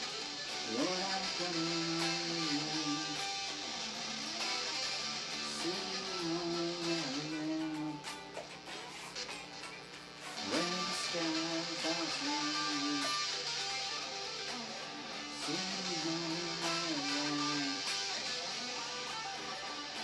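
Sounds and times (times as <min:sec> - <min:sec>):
guitar lead line sliding notes: 0:00.0 - 0:20.0
strummed guitar chords: 0:00.0 - 0:20.0.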